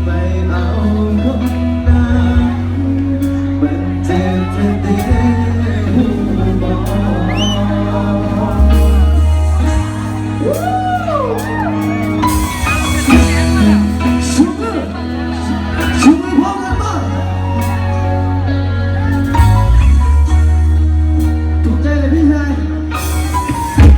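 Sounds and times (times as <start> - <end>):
heavy bass notes: 0.0 - 23.9
live band music over loudspeakers: 0.0 - 23.9.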